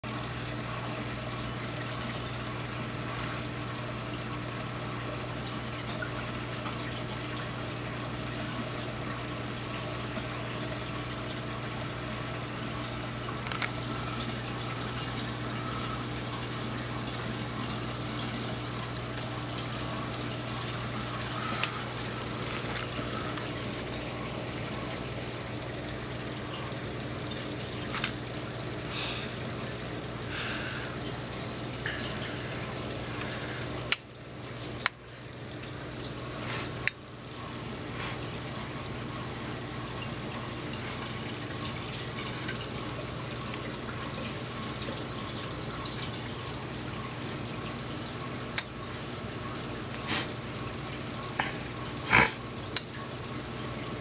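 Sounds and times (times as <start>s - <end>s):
pump hum: 0.0s - 54.0s
water trickling and dripping: 0.1s - 54.0s.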